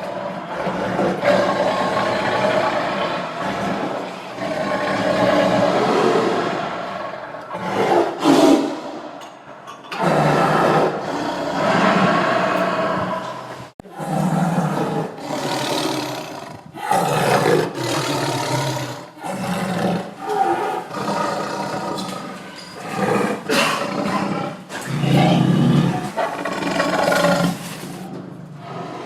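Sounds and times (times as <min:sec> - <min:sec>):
tiger roaring: 0:00.0 - 0:09.2, 0:09.9 - 0:29.0.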